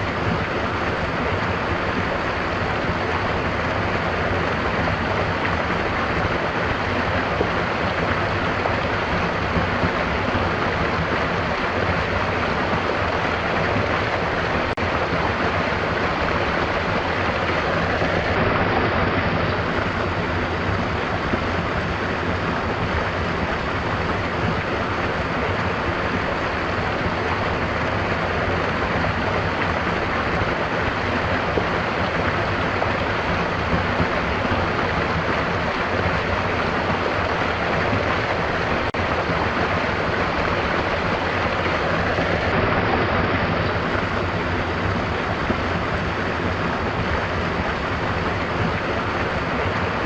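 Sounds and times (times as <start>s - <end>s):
flowing stream rushing: 0.0s - 50.0s.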